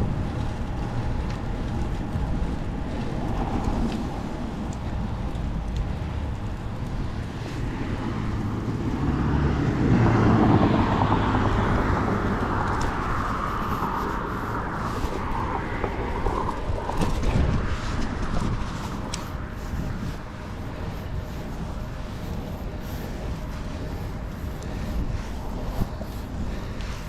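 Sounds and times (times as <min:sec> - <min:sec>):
motor vehicle passing: 0:00.0 - 0:27.0
road noise: 0:00.0 - 0:27.0
wind rumble: 0:00.0 - 0:27.0.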